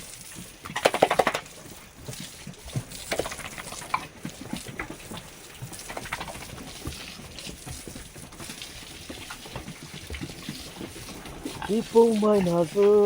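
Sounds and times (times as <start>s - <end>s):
pigs grunting: 0.0s - 13.0s
knocks and clatter: 0.7s - 11.6s.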